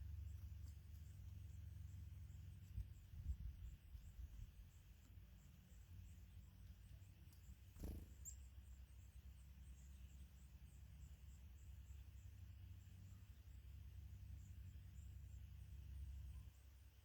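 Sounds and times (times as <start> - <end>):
small bird chirp: 0.0 - 17.0.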